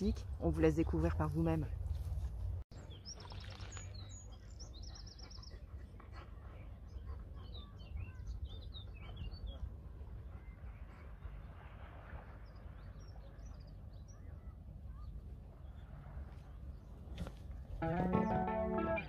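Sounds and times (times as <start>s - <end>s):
songbirds trilling and chirping: 1.9s - 19.0s.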